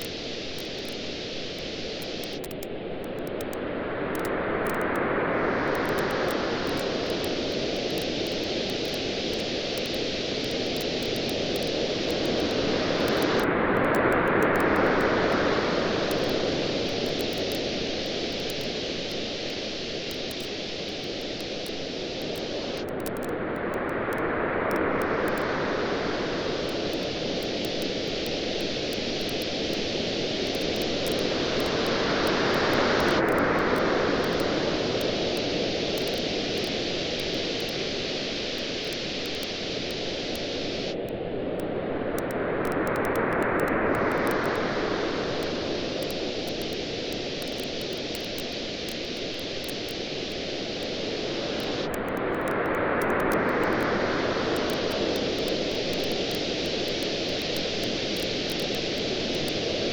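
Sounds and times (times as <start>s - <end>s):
ocean waves washing on a beach: 0.0s - 59.9s.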